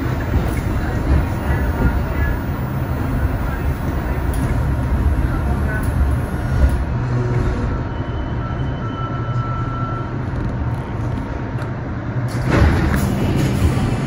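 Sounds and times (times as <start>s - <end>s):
subway car rumbling on track: 0.0s - 14.0s.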